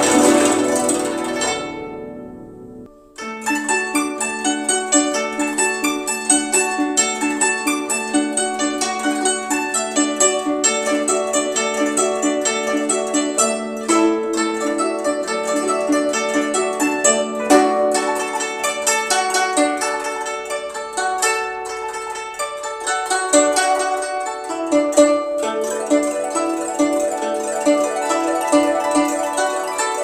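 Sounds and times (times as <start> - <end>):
plucked zither music: 0.0 - 30.0.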